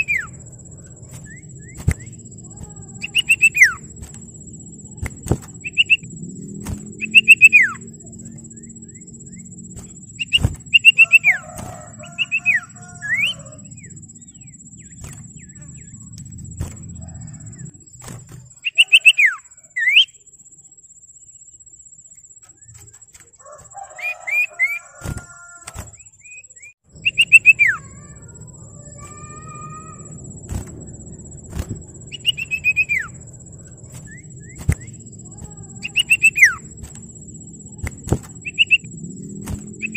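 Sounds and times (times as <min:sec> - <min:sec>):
bird whistling song: 0:00.0 - 0:20.3, 0:22.5 - 0:39.9
soft bird warbling: 0:00.0 - 0:20.8, 0:22.4 - 0:39.9
faint high whine: 0:00.0 - 0:39.9.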